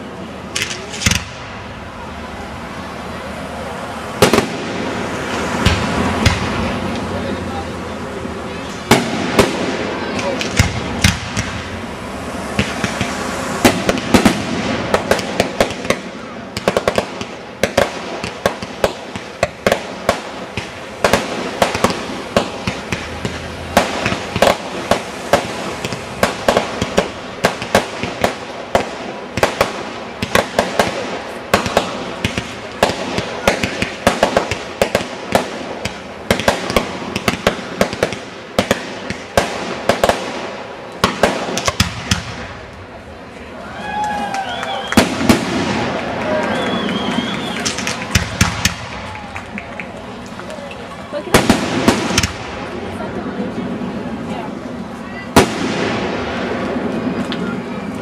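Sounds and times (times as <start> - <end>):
fireworks popping and crackling: 0.0 - 58.0.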